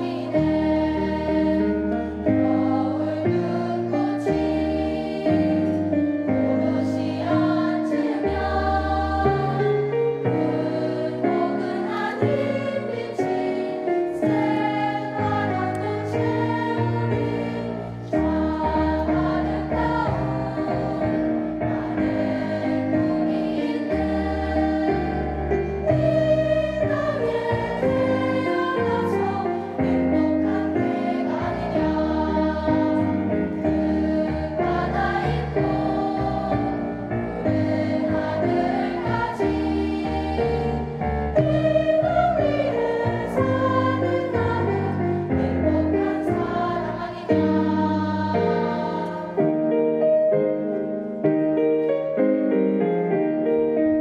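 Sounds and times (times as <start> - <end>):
children's choir singing: 0.0 - 49.6.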